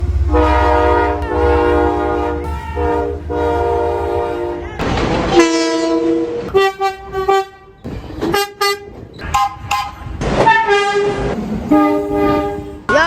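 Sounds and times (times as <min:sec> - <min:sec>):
train horn blasts: 0:00.0 - 0:12.9.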